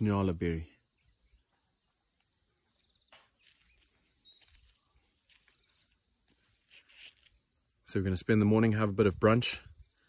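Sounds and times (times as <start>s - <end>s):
faint insect chirping: 0.0s - 10.0s.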